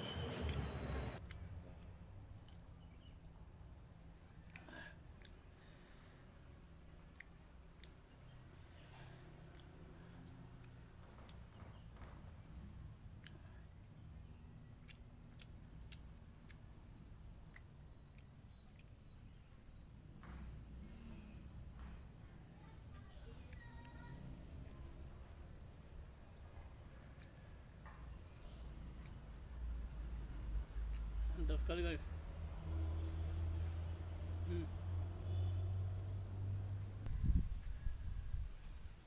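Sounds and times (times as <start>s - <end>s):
crickets chirring: 0.0s - 39.0s.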